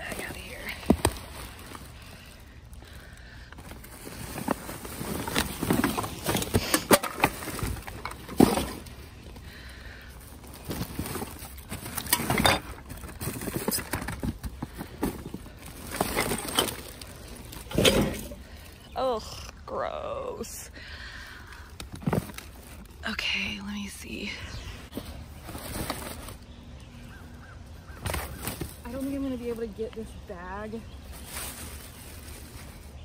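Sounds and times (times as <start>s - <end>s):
plastic bags rustling and crinkling: 0.0s - 19.8s, 20.4s - 33.0s.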